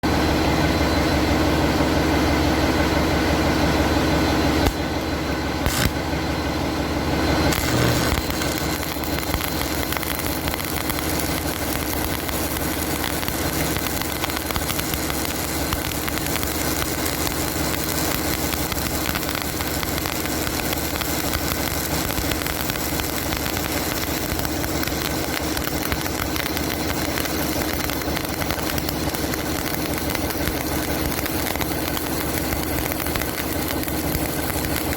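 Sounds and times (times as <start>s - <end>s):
welding machine low hum: 0.1s - 34.9s
welding arc crackling: 4.1s - 6.3s, 7.2s - 34.9s.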